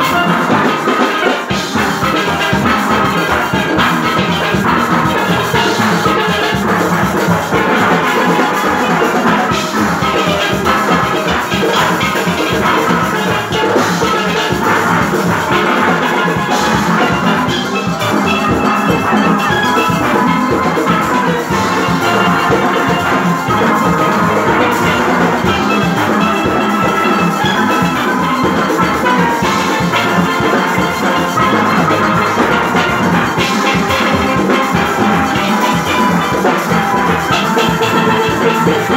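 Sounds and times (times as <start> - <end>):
drum and percussion beat: 0.0 - 38.9
steelpans playing: 0.0 - 38.9.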